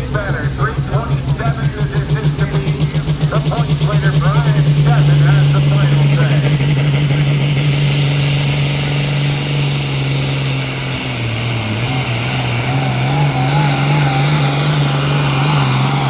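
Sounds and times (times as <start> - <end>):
tractor engine running hard: 0.0 - 16.0
wavering high whine: 1.7 - 16.0.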